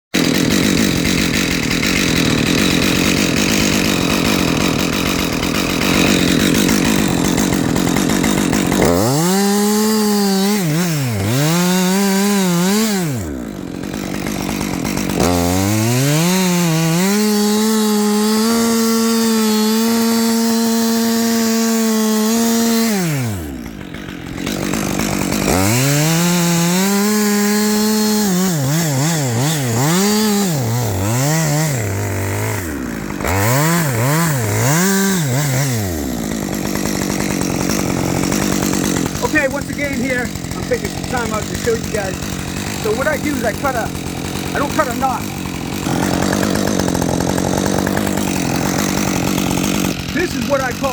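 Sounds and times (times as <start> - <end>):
chainsaw cutting wood: 0.1 - 50.9
chainsaw revving: 0.1 - 50.9.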